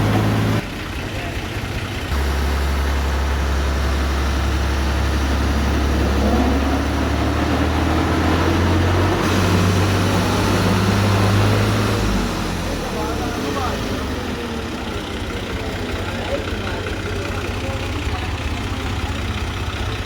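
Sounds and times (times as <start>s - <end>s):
tractor running: 0.0s - 20.0s
gear whine: 2.1s - 18.7s.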